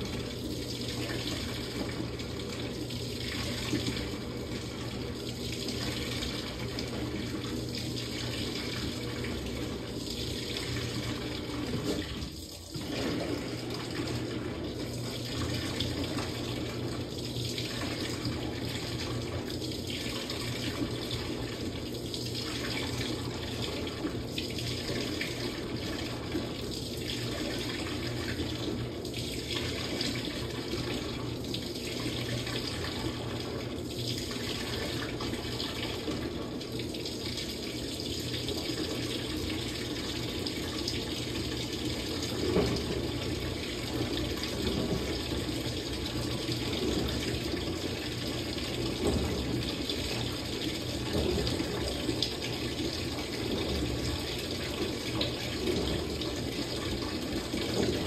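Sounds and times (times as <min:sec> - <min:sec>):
water rushing into washing machine: 0:00.0 - 0:58.0.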